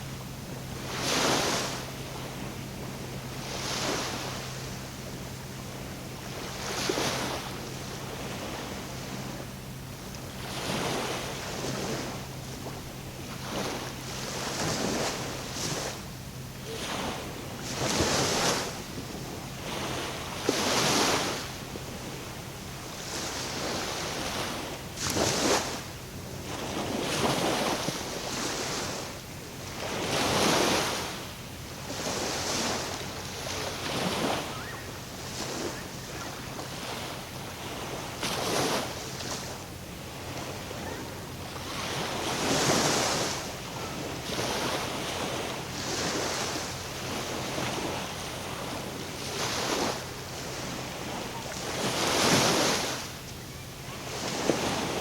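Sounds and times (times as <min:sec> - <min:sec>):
small waves splashing: 0:00.0 - 0:55.0
steady low hum: 0:00.0 - 0:55.0.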